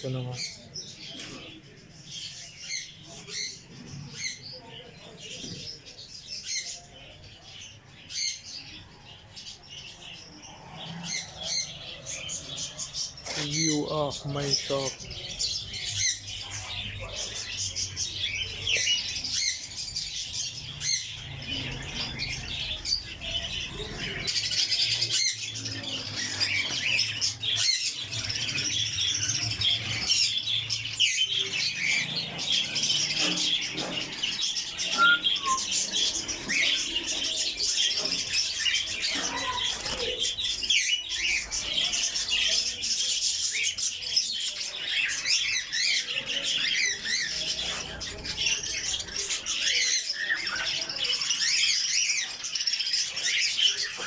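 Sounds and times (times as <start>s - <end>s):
birds chirping and squawking: 0.0s - 54.0s.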